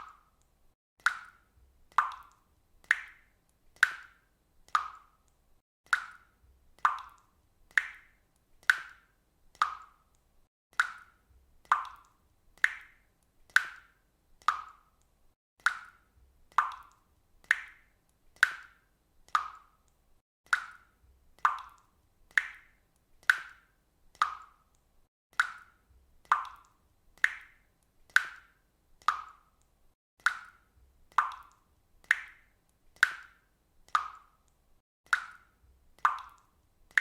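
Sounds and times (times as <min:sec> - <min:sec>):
water drops plopping into water: 0:00.0 - 0:37.0.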